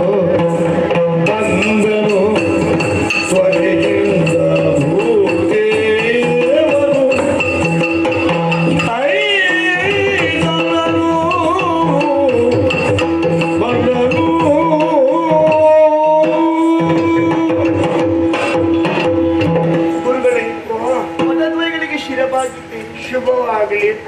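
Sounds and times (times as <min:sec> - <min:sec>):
drum strokes: 0:00.0 - 0:23.3.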